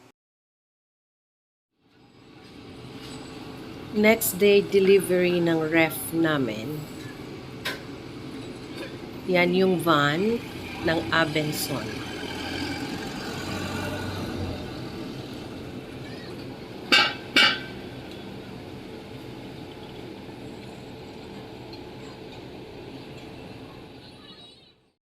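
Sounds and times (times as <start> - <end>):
traffic hum: 2.1 - 24.6.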